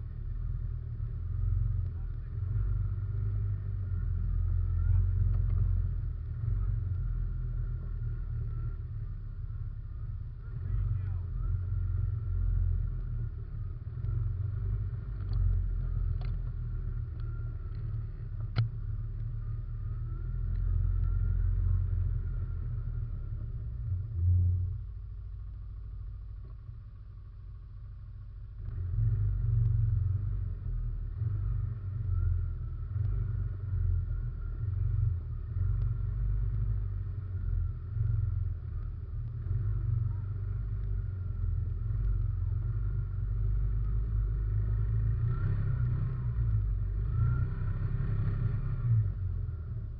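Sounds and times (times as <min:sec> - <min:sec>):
quad bike engine running: 0:00.0 - 0:49.9.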